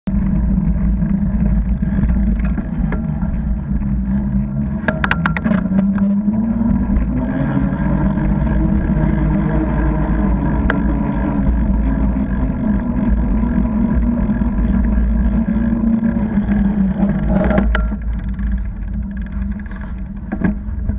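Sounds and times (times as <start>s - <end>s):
tyres rolling on tarmac: 0.1s - 20.9s.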